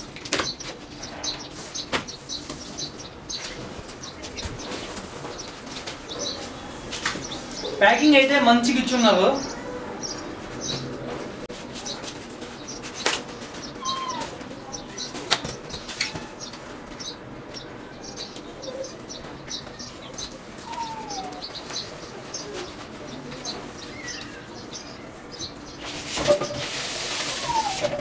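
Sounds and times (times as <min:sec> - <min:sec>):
birds chirping: 0:00.0 - 0:26.6, 0:27.2 - 0:28.0.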